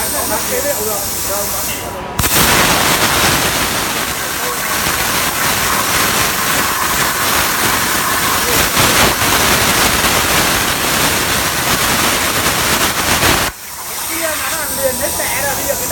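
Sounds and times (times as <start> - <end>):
plasma torch cutting metal hiss: 0.0 - 15.9.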